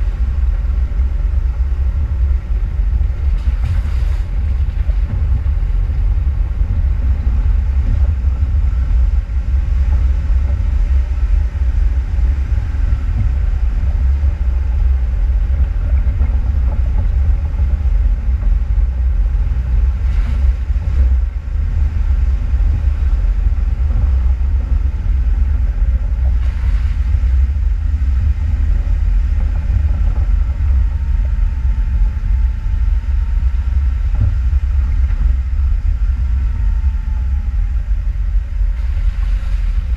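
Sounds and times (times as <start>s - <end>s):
faint whine: 0.0s - 39.9s
off-road vehicle rumbling: 0.0s - 39.9s.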